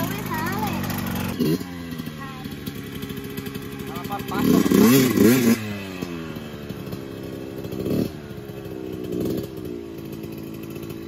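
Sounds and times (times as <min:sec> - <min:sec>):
dirt bike engine: 0:00.0 - 0:11.0.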